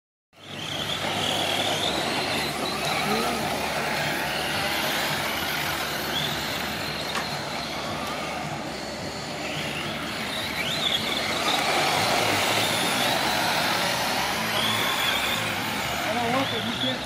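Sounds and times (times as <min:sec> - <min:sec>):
toy truck motors whining: 0:00.4 - 0:17.0.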